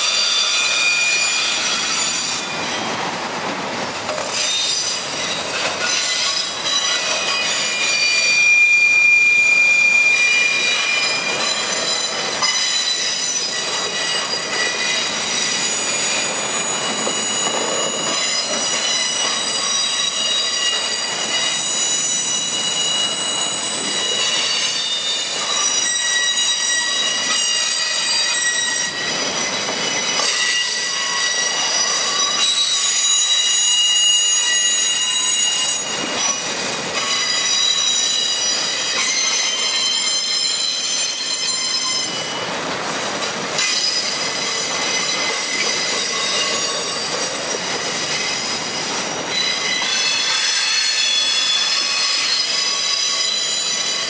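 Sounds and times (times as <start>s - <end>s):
train wheels squealing: 0.0s - 3.2s, 4.1s - 54.0s
rumble and clatter of train cars: 0.0s - 54.0s.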